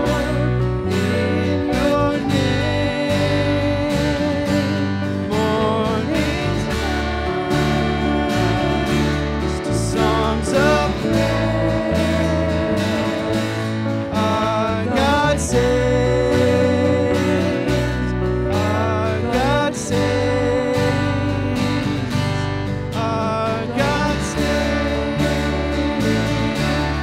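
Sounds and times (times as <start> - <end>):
live worship band music: 0.0 - 27.0
strummed acoustic guitar: 0.0 - 27.0.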